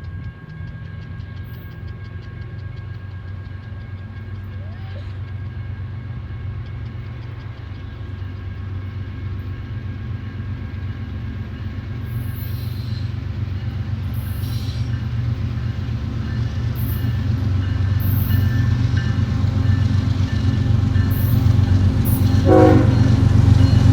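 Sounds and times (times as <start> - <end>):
freight train rumbling: 0.0 - 23.9.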